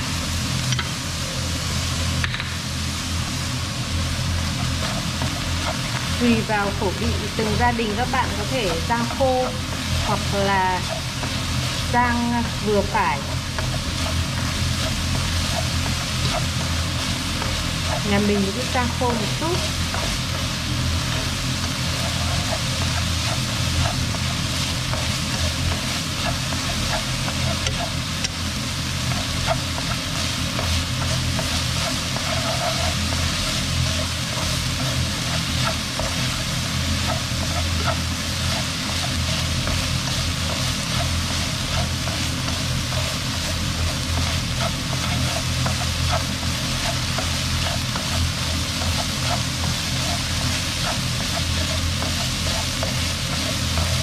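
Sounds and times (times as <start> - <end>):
meat sizzling in a wok: 0.0 - 54.0
chopsticks scraping wok: 4.4 - 54.0.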